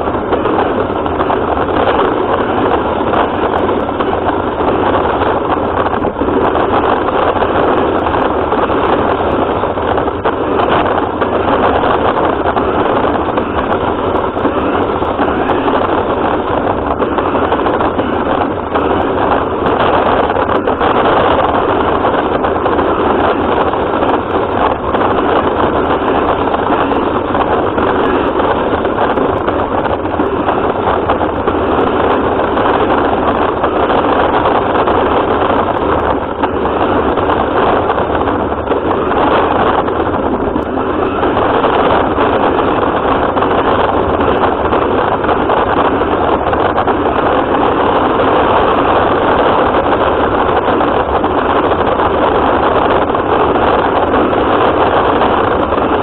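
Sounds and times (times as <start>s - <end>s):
radio-controlled car running: 0.0s - 56.0s.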